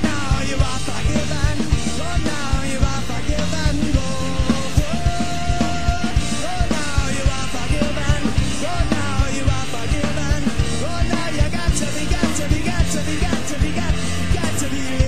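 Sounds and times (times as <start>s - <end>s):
driving rock drum beat: 0.0s - 15.0s
wavering melodic lead line: 0.0s - 15.0s.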